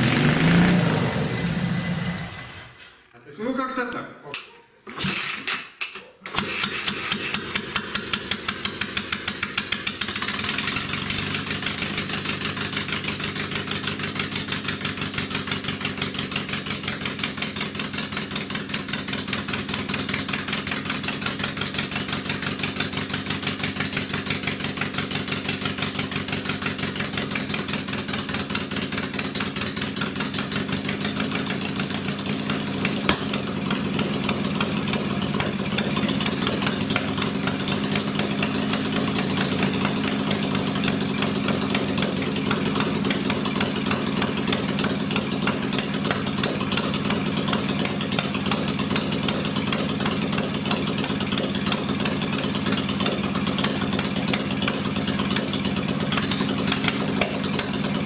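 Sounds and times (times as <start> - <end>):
small motorcycle engine running: 0.0 - 2.7, 6.4 - 58.0.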